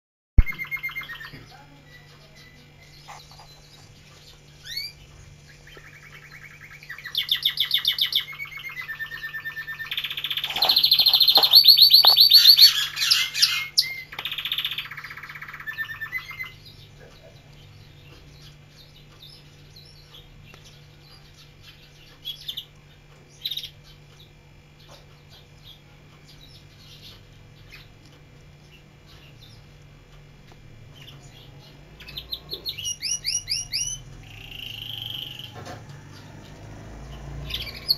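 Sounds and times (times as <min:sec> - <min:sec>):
canary singing trills: 0:00.4 - 0:28.0, 0:30.8 - 0:37.9.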